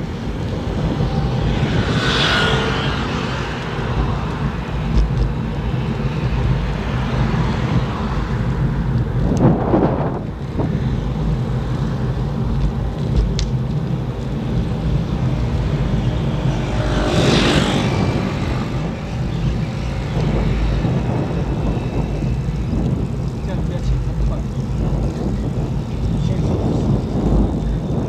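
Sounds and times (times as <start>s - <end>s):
tyres on asphalt: 0.0s - 28.0s
wind buffeting microphone: 0.0s - 28.0s.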